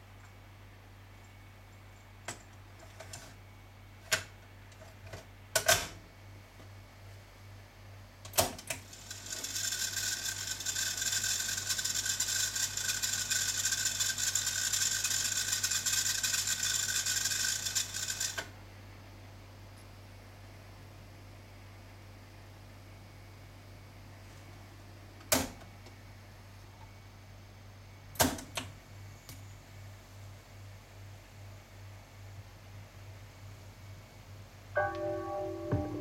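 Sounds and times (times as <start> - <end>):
cassette deck whirring hiss: 0.0 - 36.0.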